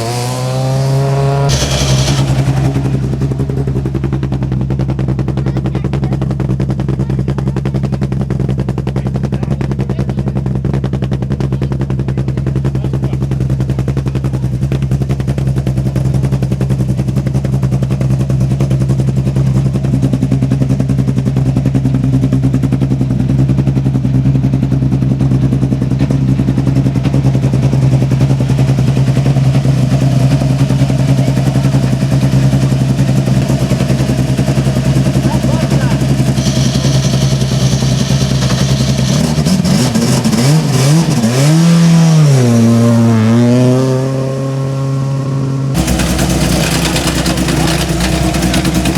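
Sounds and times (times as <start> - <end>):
car engine idling: 1.3 - 39.8, 45.8 - 48.9.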